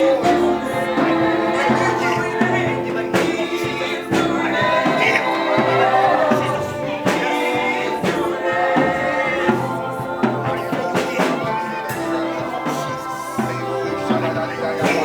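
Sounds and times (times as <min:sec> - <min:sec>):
drum hits: 0:00.0 - 0:15.0
live band worship music: 0:00.0 - 0:15.0.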